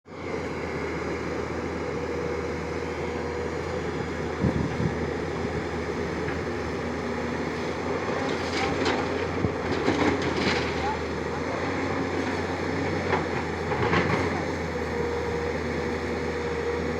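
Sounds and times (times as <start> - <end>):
excavator diesel engine running: 0.1 - 16.9.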